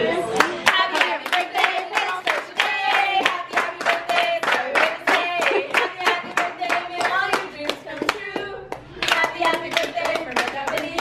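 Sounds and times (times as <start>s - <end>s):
group singing: 0.0s - 11.0s
people clapping in rhythm: 0.4s - 11.0s.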